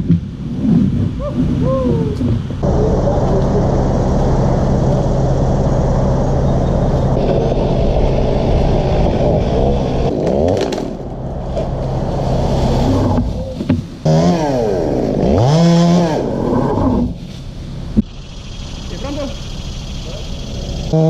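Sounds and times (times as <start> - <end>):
chainsaw engine revving: 2.6 - 17.2, 18.2 - 21.0.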